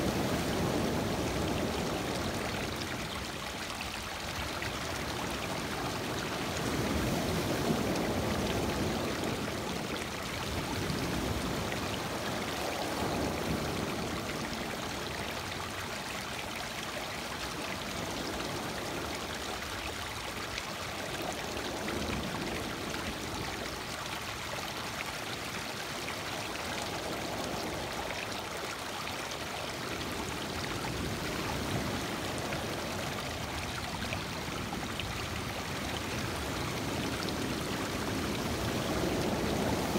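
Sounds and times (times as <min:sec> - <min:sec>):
lake waves washing over stones: 0:00.0 - 0:39.9.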